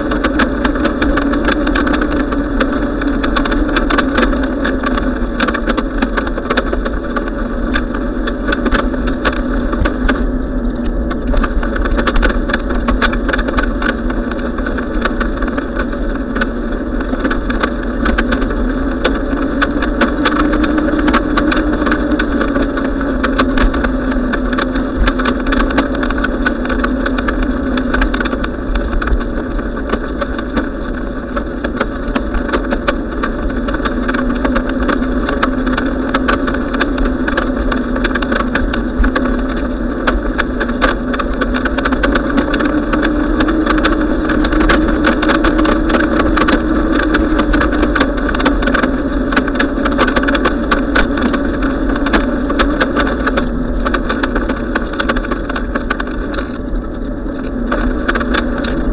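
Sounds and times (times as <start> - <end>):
bicycle tyre and drivetrain hum: 0.0 - 58.9
rattle of small clicks: 0.0 - 58.9.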